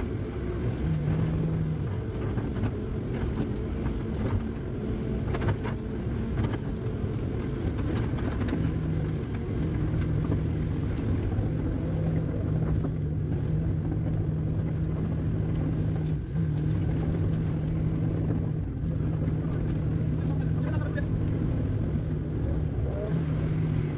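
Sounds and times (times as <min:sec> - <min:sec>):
excavator diesel engine under load: 0:00.0 - 0:23.9.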